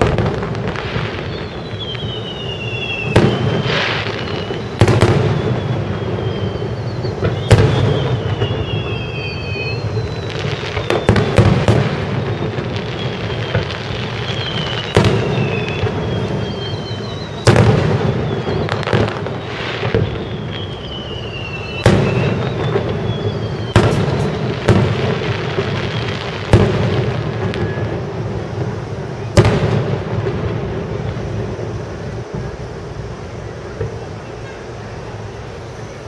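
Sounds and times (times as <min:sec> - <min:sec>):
firework shells booming: 0:00.0 - 0:34.6
falling firework whistles: 0:00.0 - 0:36.0.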